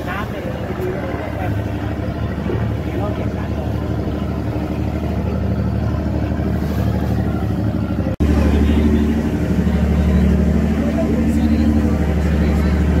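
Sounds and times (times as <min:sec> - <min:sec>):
speedboat engine running: 0:00.0 - 0:13.0
water and wind noise: 0:00.0 - 0:13.0.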